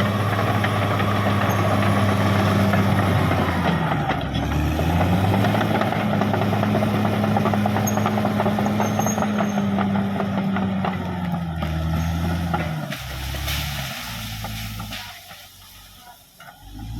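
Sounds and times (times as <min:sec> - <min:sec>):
bulldozer diesel engine running: 0:00.0 - 0:16.9.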